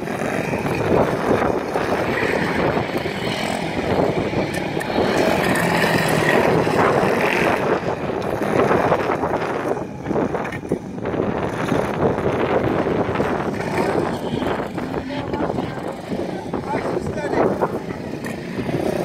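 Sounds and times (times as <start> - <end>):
motorbike engines revving: 0.0 - 19.0
wind buffeting microphone: 0.0 - 19.0.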